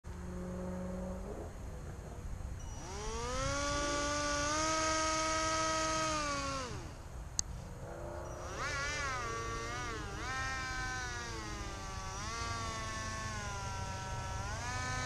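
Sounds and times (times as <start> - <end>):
electric motor whine: 0.2 - 15.0.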